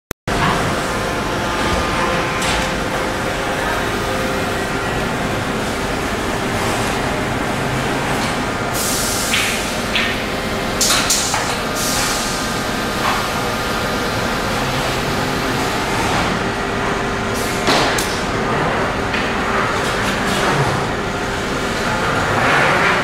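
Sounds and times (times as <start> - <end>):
machinery hum: 0.3 - 23.0.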